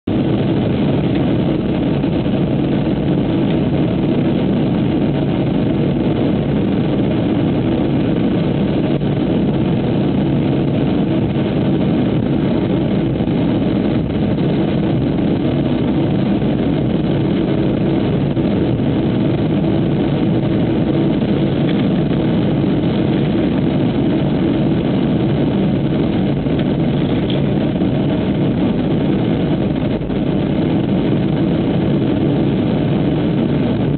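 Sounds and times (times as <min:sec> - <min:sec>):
jet engine drone in cabin: 0:00.0 - 0:33.9
plane rolling rumble: 0:00.0 - 0:33.9.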